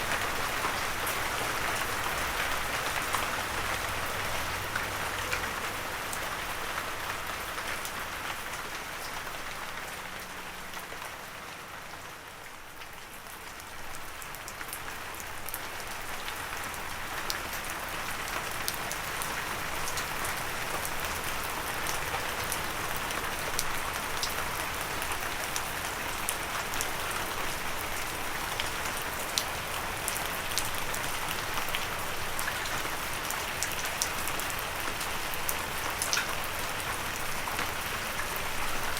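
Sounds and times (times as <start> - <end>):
gentle rain falling: 0.0 - 38.9
raindrops ticking close by: 0.0 - 38.9.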